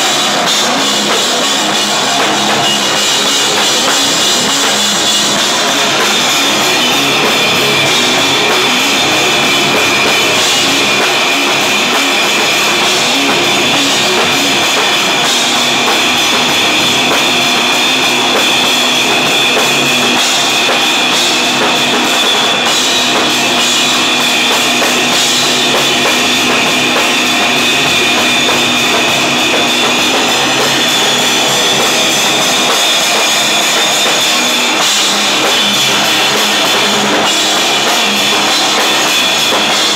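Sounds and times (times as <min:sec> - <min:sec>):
heavy rock band playing loudly: 0:00.0 - 0:39.9.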